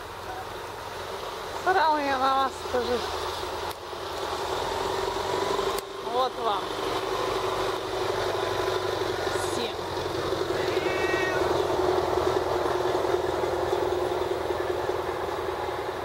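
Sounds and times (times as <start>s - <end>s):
steady engine-like hum: 0.0s - 16.0s.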